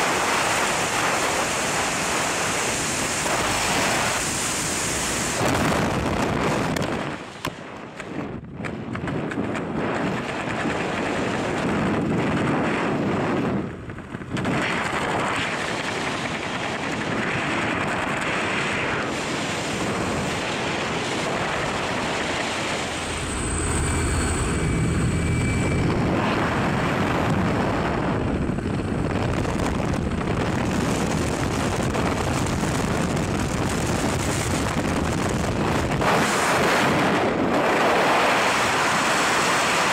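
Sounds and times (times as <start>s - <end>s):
propeller engine drone: 0.0s - 39.9s
wind rushing over microphone: 0.0s - 39.9s.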